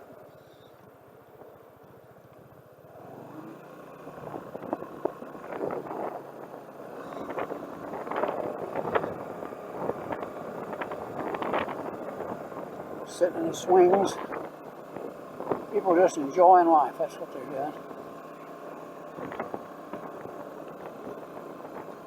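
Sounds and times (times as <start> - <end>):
tyre and road noise: 0.0 - 22.0
vehicle engine running quietly: 0.0 - 22.0.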